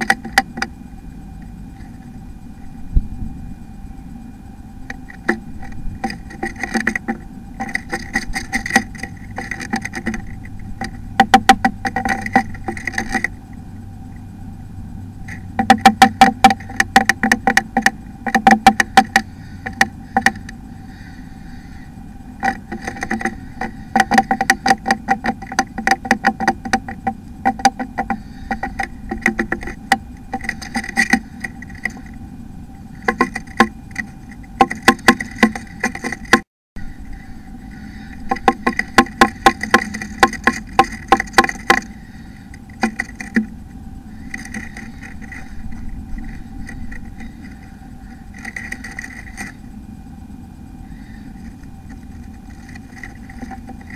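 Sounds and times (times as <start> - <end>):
bird pecking in nest box: 0.0 - 0.7, 4.8 - 13.5, 15.3 - 21.2, 22.4 - 36.5, 37.1 - 49.6, 50.9 - 53.9
electrical hum: 0.0 - 53.9.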